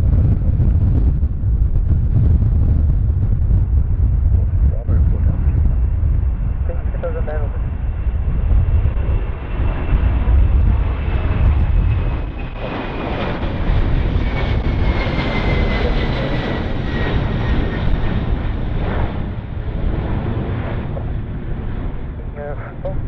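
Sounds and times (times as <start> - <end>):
aircraft engine rumble: 0.0 - 23.0.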